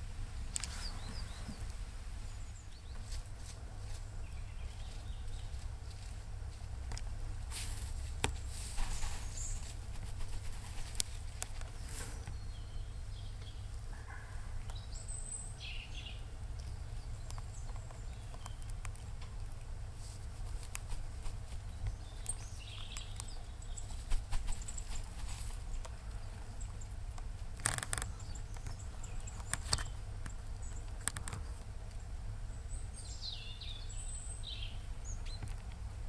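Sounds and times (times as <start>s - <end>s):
low steady rumble: 0.0s - 36.0s
squirrel rustling in dry leaves: 0.3s - 14.7s, 15.5s - 32.5s.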